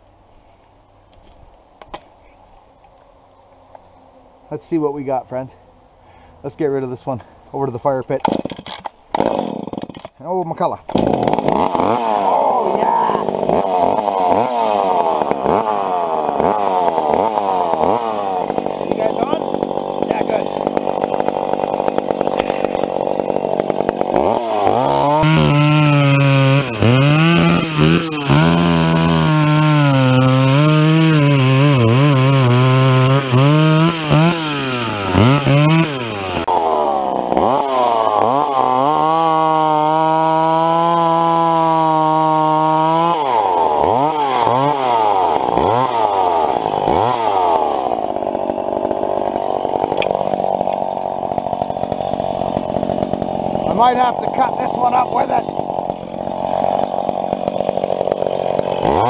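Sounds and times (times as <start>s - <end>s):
chainsaw cutting wood: 8.1s - 10.2s, 10.8s - 59.0s.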